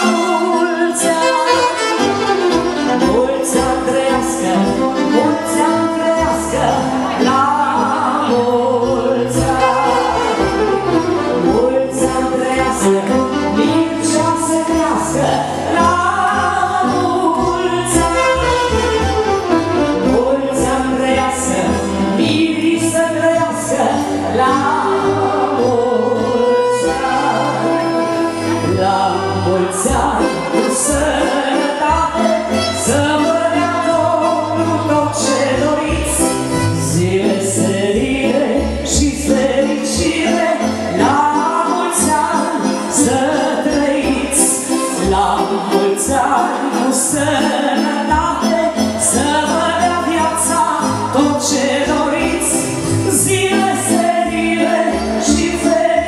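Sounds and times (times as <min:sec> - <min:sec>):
bass line: 0:00.0 - 0:56.0
person singing: 0:00.0 - 0:56.0.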